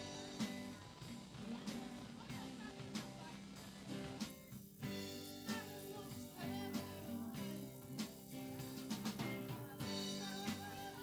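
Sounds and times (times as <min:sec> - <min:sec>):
drums beating: 0:00.0 - 0:11.0
guitar: 0:00.0 - 0:11.0
live band playing: 0:00.0 - 0:11.0.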